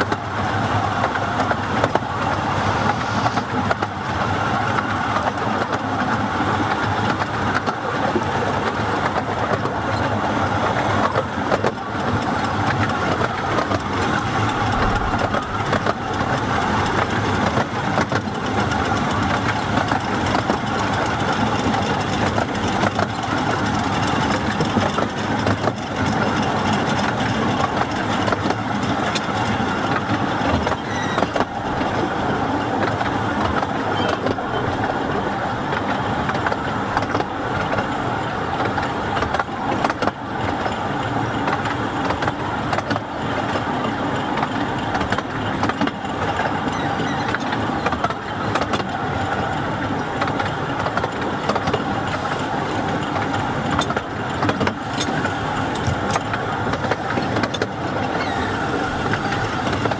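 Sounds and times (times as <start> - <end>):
railway carriage wheels rumbling: 0.0 - 59.9.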